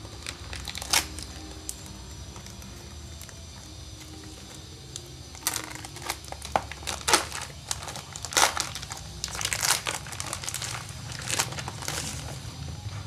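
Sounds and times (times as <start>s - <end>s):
plastic film crinkling: 0.0s - 12.6s.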